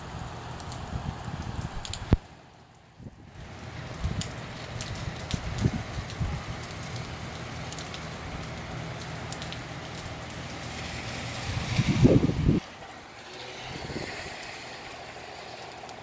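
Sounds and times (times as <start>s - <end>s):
low wind rumbles: 0.0s - 15.8s
light rain falling: 0.0s - 16.0s.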